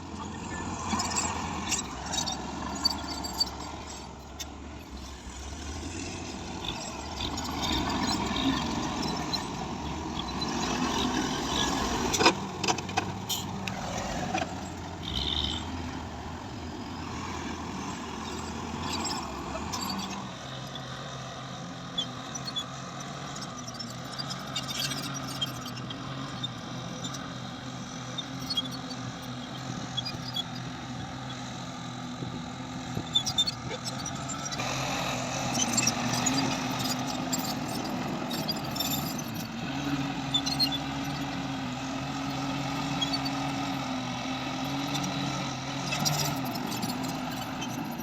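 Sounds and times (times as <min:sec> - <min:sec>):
heavy machinery engine running: 0:00.0 - 0:48.0.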